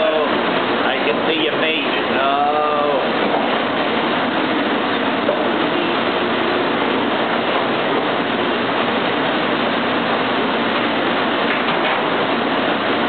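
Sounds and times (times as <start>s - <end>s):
conveyor dishwasher running: 0.0s - 13.0s.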